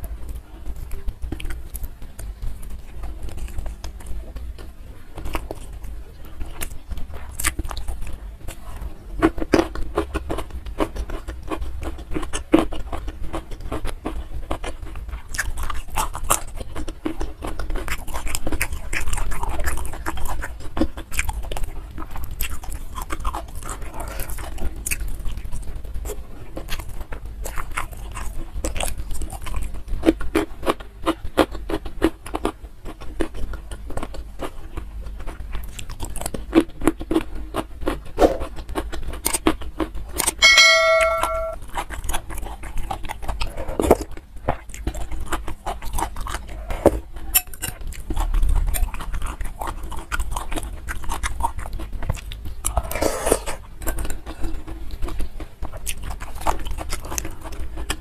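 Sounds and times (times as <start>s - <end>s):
crunchy chewing and biting: 0.0s - 40.4s, 41.6s - 58.0s.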